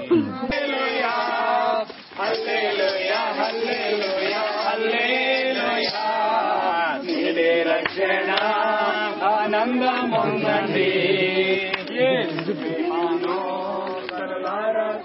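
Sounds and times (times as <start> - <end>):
voices praying in a chant: 0.0 - 15.0.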